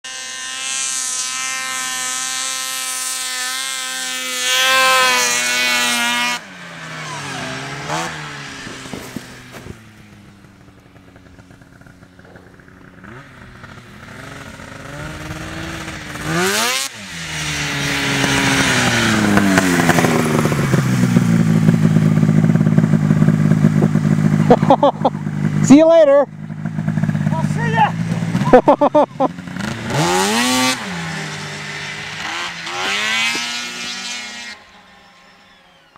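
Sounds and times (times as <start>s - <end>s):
distant snowmobile revving: 0.0s - 35.9s
nearby snowmobile engine revving: 0.0s - 35.9s.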